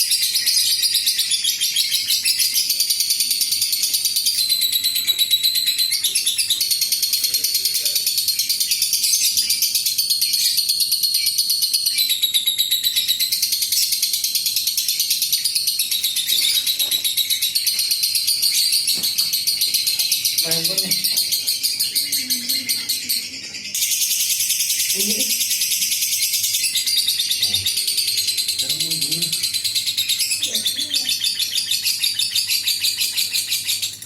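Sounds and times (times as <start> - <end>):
lovebird chattering trill: 0.0 - 34.0.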